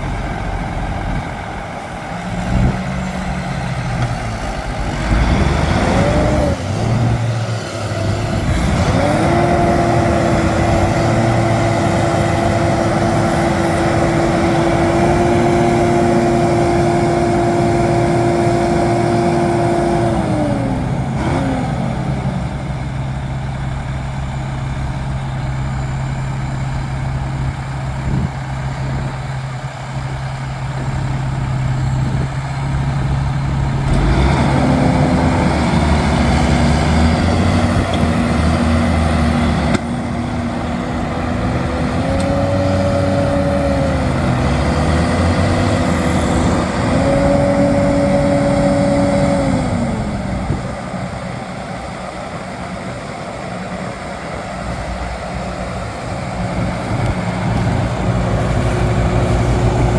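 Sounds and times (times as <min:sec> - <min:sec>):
diesel tractor engines under load: 0:00.0 - 0:59.9.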